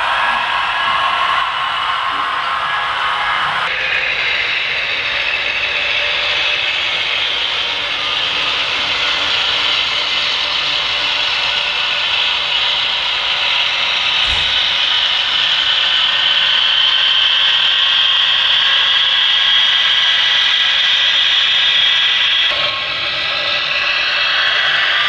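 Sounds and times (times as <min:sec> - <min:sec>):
model train wheels hissing on rails: 0:03.7 - 0:25.0.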